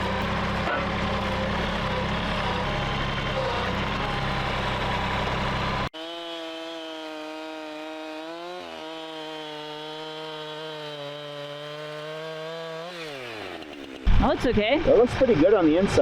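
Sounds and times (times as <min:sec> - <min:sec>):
small gasoline engine running: 0:00.0 - 0:15.4.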